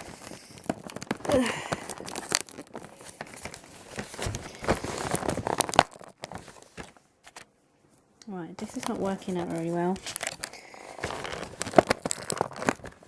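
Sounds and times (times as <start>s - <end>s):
cardboard crinkling and tearing: 0.0s - 7.4s, 8.6s - 13.0s.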